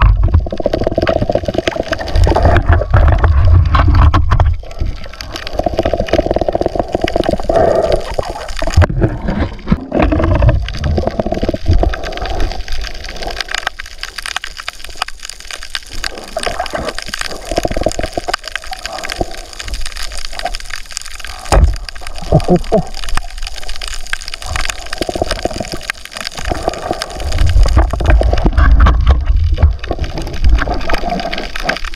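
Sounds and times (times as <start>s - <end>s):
crackle of tiny clicks: 0.0s - 31.9s
underwater sloshing and bubbling: 0.0s - 31.9s.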